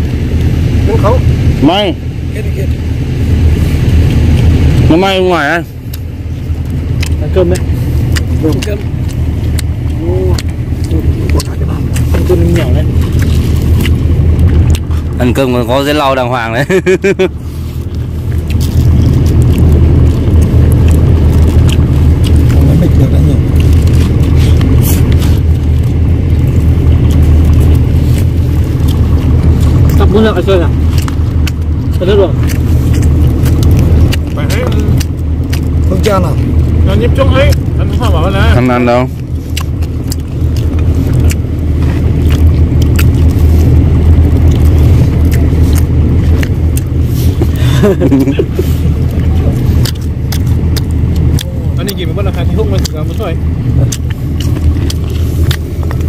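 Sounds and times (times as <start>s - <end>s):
engine rumbling: 0.0s - 56.0s.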